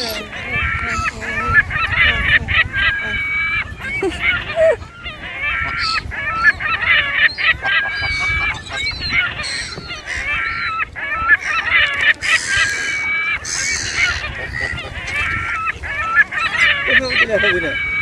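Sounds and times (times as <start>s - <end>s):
gulls and geese squawking: 0.0s - 18.0s.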